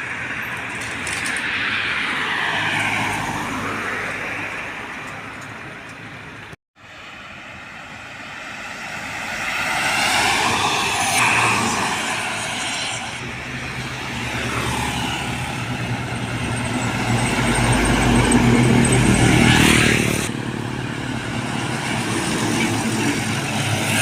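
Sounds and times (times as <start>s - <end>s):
trucks passing on a road: 0.0s - 24.0s.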